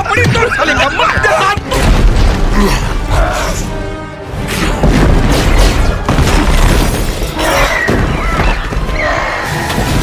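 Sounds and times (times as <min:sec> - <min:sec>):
film music: 0:00.0 - 0:10.0.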